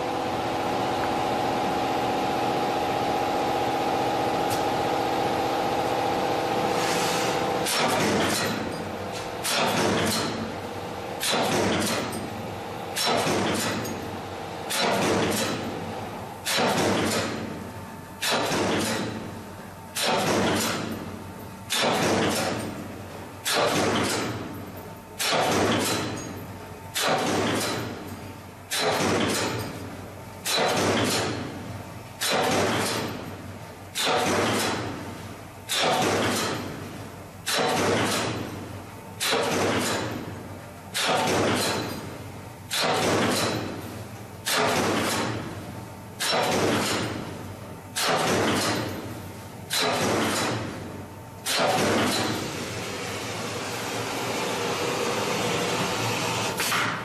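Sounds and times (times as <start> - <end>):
punch machine punching steel sheet: 0.3 - 57.0.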